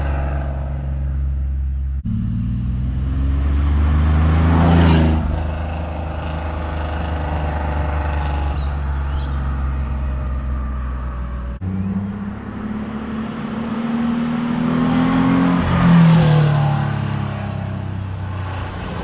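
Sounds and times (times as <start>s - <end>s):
car engine passing by: 2.0s - 19.0s.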